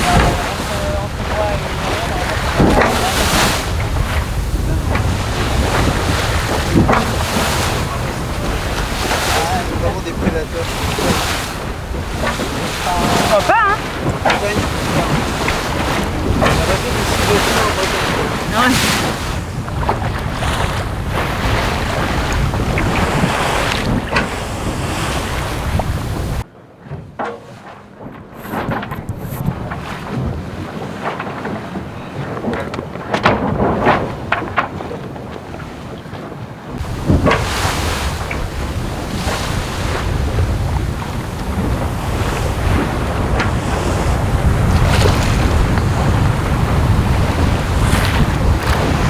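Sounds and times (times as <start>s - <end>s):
wind buffeting microphone: 0.0s - 27.2s, 27.9s - 49.0s
rushing sea water: 0.0s - 49.0s
wind: 0.0s - 49.0s.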